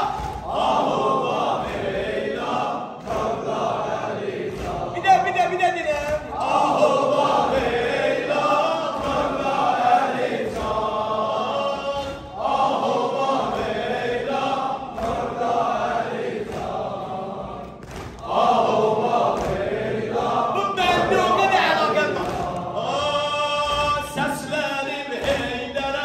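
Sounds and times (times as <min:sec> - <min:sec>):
men chanting a prayer: 0:00.0 - 0:26.0.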